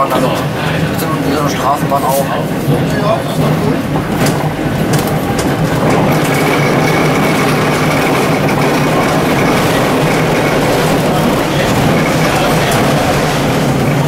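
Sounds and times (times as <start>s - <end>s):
tram wheels rumbling: 0.0s - 14.0s.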